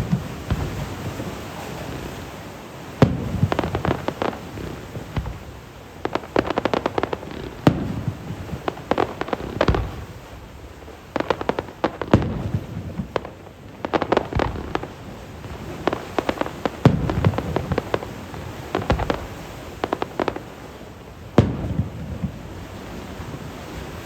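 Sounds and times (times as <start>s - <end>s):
fireworks bangs: 0.0s - 23.0s
fireworks crackling pops: 0.0s - 23.4s.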